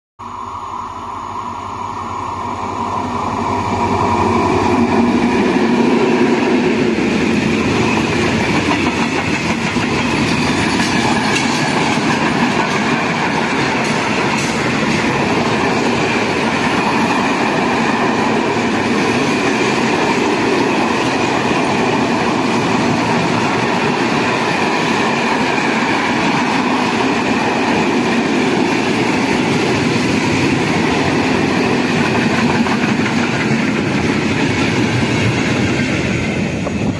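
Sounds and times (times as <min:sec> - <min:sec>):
freight train wheels rumbling: 0:00.2 - 0:36.9.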